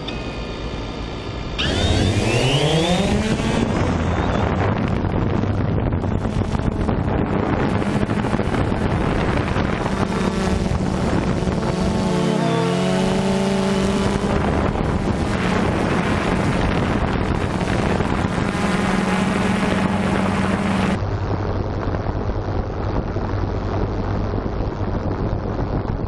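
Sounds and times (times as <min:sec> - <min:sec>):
drone propellers humming: 0:00.0 - 0:26.0
wind on microphone: 0:00.0 - 0:26.0.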